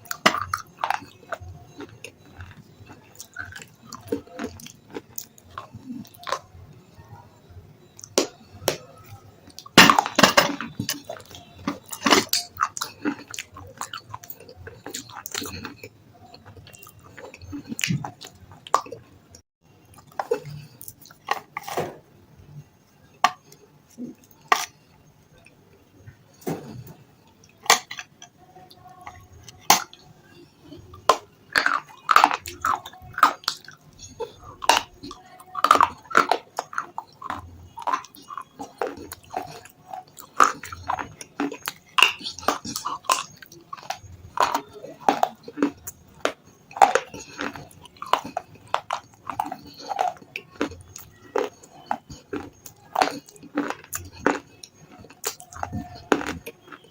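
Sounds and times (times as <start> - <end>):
crunchy food chewing: 0.0 - 21.9, 22.5 - 56.9.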